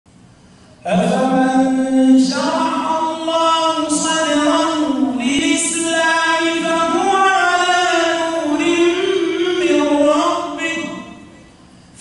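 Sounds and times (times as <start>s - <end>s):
man chanting into a microphone: 0.8s - 11.4s.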